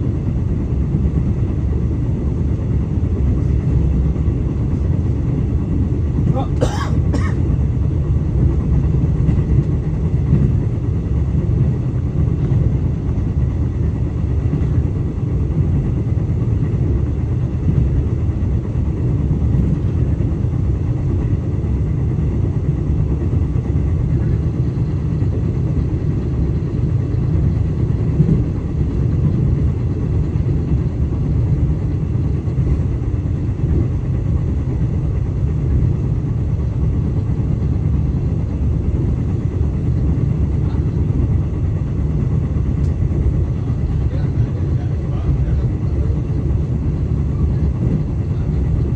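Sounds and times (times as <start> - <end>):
train carriage rumble: 0.0 - 48.9.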